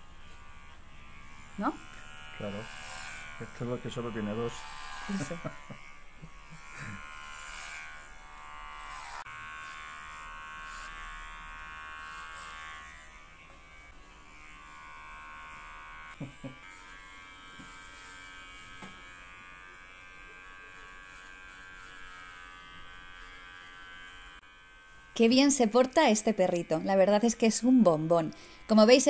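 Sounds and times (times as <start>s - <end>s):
electric hair clipper buzzing: 0.0s - 29.0s.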